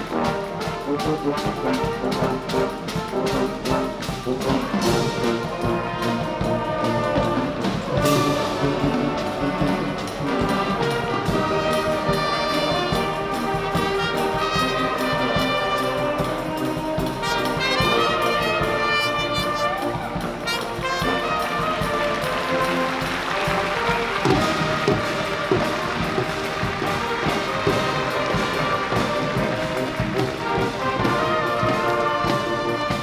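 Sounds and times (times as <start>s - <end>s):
brass band playing: 0.0s - 33.0s.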